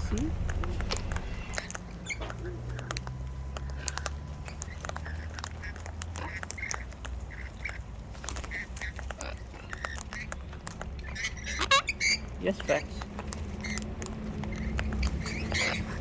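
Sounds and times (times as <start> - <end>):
birds making soft calls: 0.0 - 16.0
sharp clicks: 0.0 - 16.0.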